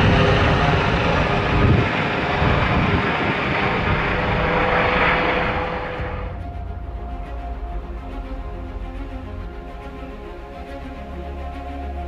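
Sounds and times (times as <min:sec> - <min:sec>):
helicopter rotor beating: 0:00.0 - 0:12.0
turbine whine: 0:00.0 - 0:12.0.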